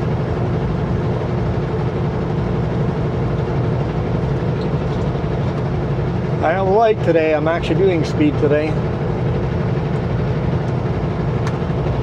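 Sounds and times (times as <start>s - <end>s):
road and wind noise: 0.0s - 12.0s
truck diesel engine hum: 0.0s - 12.0s.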